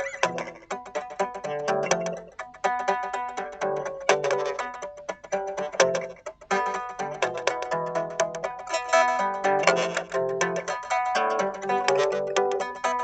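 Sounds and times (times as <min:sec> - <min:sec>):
solo guitar playing: 0:00.0 - 0:13.0.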